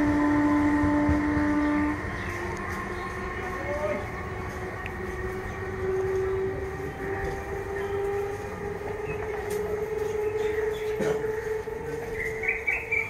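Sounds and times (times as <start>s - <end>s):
train motor whine: 0.0s - 13.0s
train rumble: 0.0s - 13.0s.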